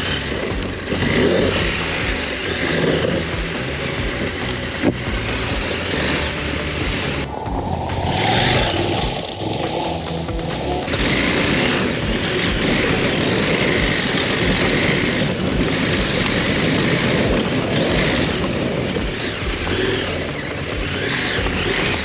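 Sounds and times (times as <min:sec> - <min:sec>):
motorcycle engine running: 0:00.0 - 0:22.0
wind noise: 0:00.0 - 0:22.0.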